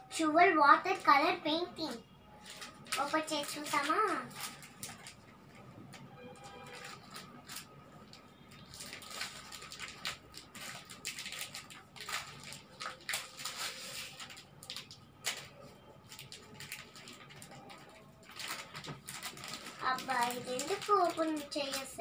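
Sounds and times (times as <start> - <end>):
packaging crinkling: 2.4 - 22.0.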